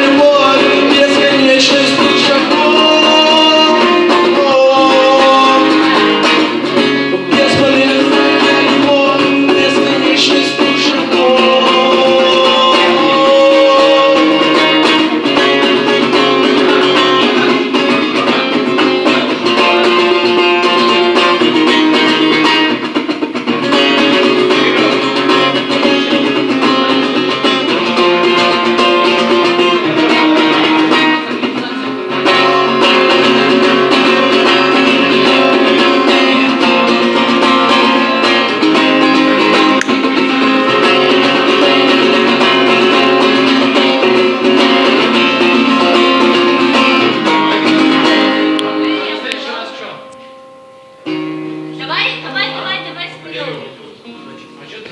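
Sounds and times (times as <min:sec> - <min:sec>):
guitar playing: 0:00.0 - 0:54.9.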